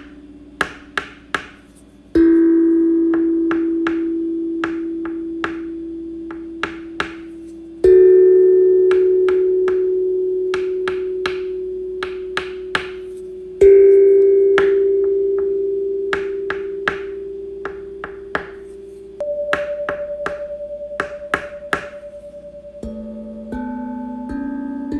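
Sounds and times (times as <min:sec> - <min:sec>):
bell-like tone ringing: 0:02.2 - 0:24.9.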